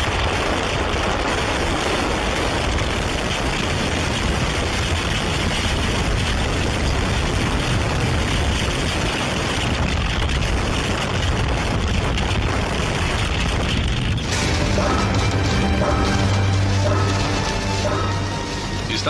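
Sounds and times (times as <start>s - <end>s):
deep rumble: 0.0s - 19.0s
wind and rain buffeting car: 0.0s - 19.0s.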